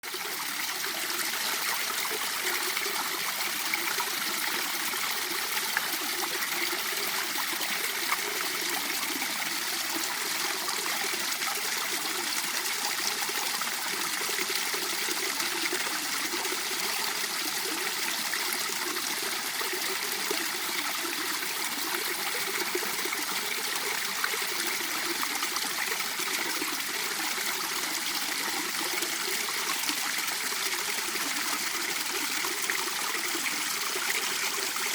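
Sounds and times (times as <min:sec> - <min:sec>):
stream water flowing over rocks: 0:00.0 - 0:34.9.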